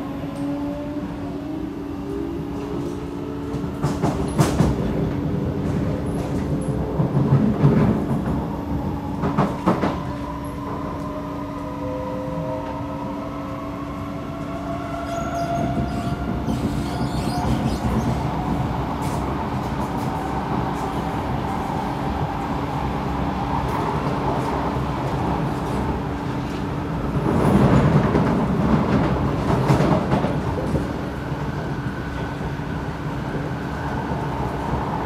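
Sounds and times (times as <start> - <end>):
steady train hum: 0.0 - 35.0.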